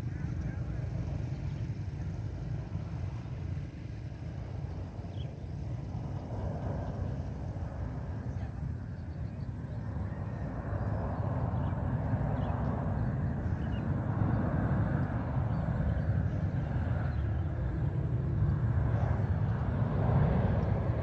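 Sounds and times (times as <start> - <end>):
jet engine low rumble: 0.0 - 21.0.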